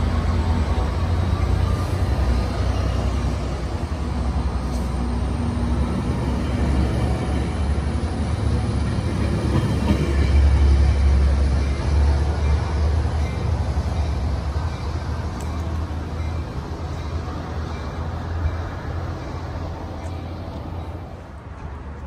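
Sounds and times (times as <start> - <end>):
train coaches rolling on rails: 0.0 - 22.0.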